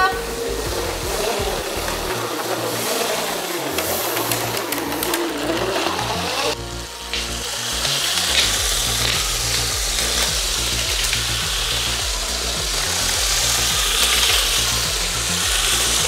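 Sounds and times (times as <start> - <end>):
toy train motor whirring: 0.0 - 16.0
wheels rattling on plastic track: 0.0 - 16.0.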